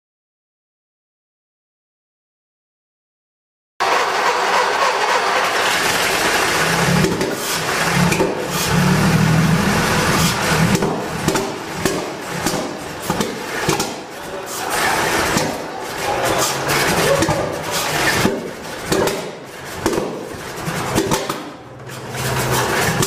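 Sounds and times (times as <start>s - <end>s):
engine popping: 3.8s - 23.0s
engine running loud and rough: 3.8s - 23.0s.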